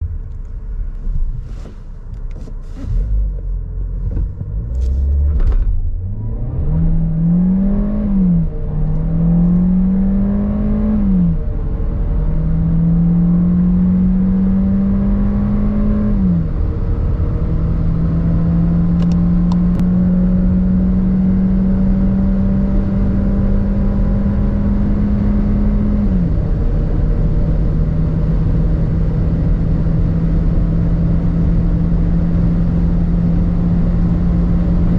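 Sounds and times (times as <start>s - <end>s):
car engine accelerating with upshifts: 0.0s - 34.9s.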